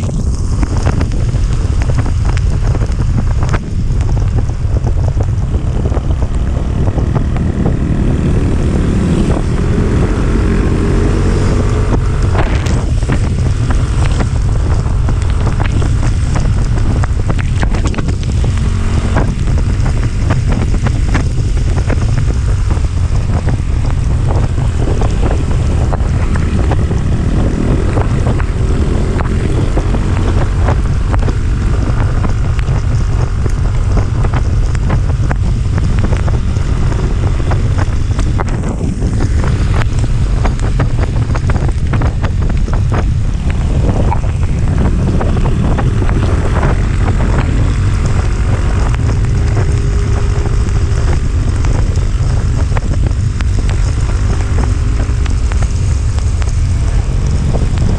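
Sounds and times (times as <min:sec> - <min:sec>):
faint vehicle engine running: 0:00.0 - 0:57.9
wind buffeting microphone: 0:00.0 - 0:57.9.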